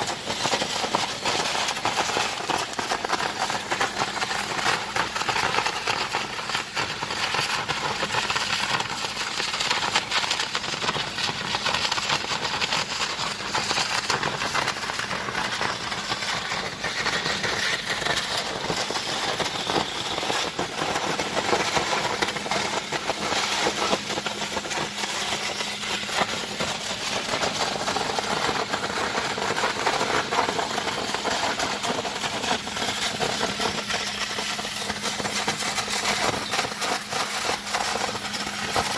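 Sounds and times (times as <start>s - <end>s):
pump hum: 0.0s - 38.9s
water jet blasting concrete: 0.0s - 38.9s.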